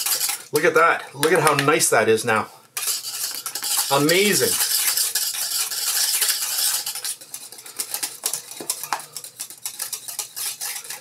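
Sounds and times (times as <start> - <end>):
whisk scraping steel saucepan: 0.0 - 2.0, 2.8 - 11.0.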